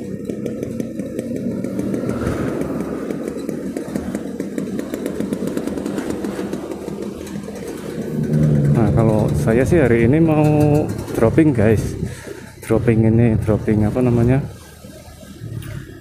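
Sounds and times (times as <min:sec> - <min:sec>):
motorcycle engine running: 0:00.0 - 0:16.0
road rumble: 0:00.0 - 0:16.0.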